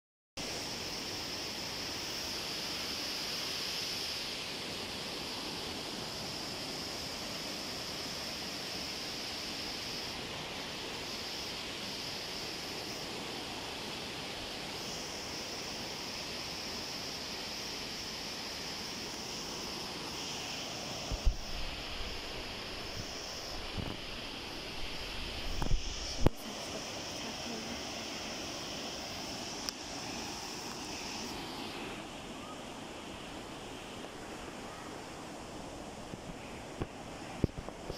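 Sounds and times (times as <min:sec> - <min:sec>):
river and waterfall rushing: 0:00.5 - 0:37.5.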